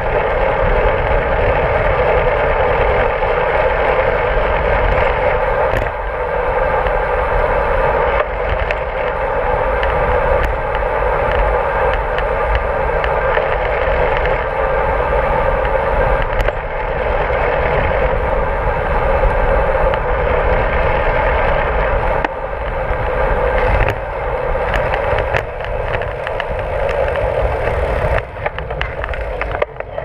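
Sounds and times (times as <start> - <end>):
bicycle tyres rumbling on asphalt: 0.0 - 30.0
wind rush on microphone: 0.0 - 30.0.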